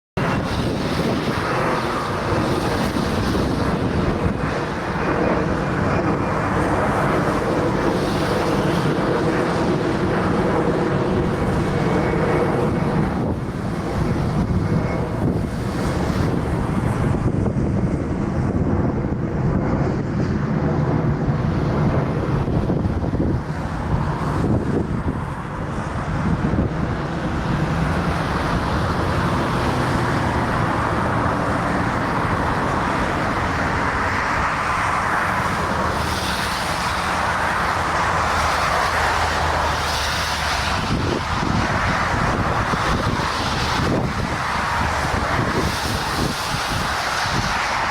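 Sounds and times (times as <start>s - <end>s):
jet engine hum: 0.2s - 47.9s
rushing air and spray: 0.2s - 47.9s.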